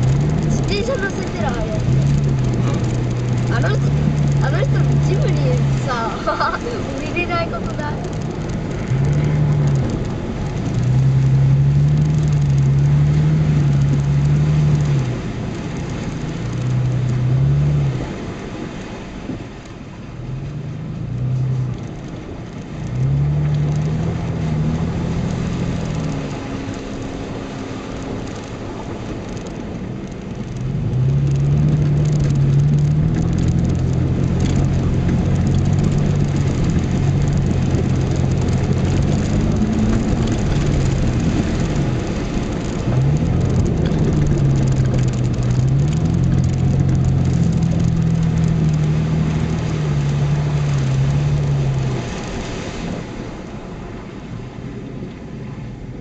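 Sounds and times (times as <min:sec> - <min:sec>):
off-road vehicle engine from inside cab: 0:00.0 - 0:56.0.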